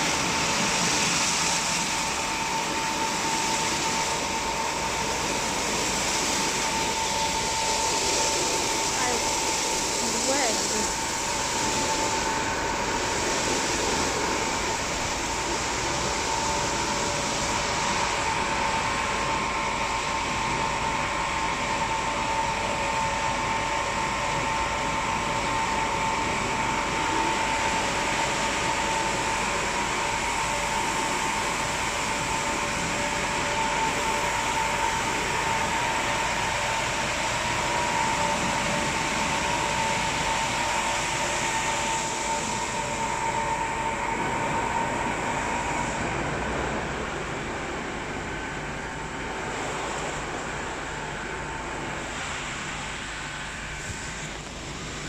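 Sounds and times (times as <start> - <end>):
car wash machine whirring: 0.0 - 55.0.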